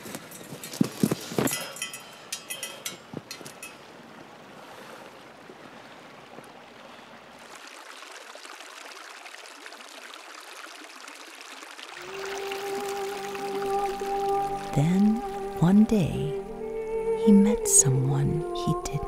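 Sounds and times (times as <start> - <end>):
stream trickling over stones: 0.0 - 16.4.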